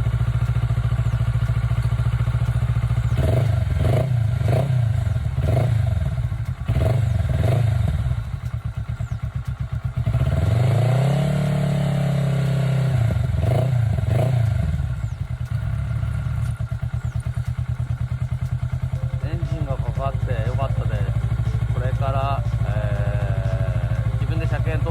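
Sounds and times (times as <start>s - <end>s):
motorcycle engine idling and revving: 0.0s - 24.9s.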